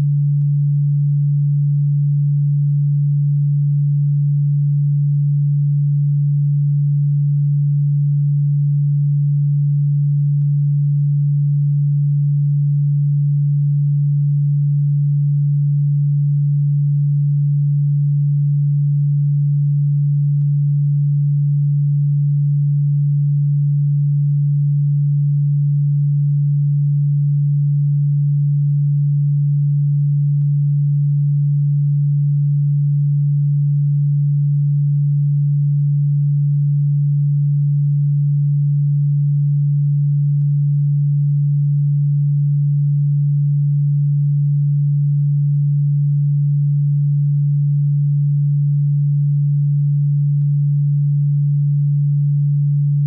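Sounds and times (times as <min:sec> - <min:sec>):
low electronic pure tone: 0:00.0 - 0:53.0.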